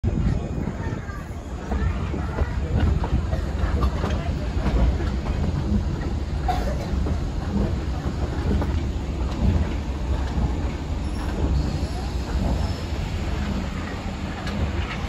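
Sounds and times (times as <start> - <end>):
railroad cars rolling past: 0.1 - 15.0.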